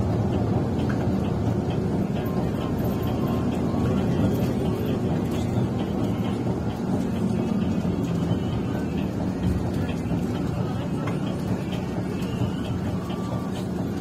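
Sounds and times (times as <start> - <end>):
coach engine and road noise: 0.0 - 14.0.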